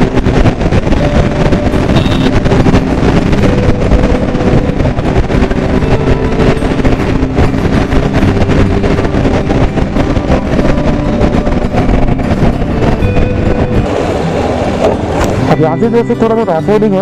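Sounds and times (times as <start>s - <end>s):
motorcycle engine drone: 0.0s - 17.0s
wind rush buffeting microphone: 0.0s - 17.0s.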